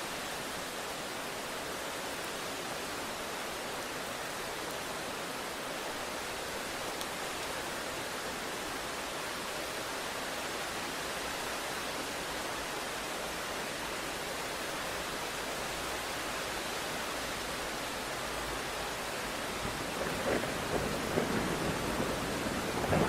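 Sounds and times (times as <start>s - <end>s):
heavy rain hiss: 0.0s - 23.0s.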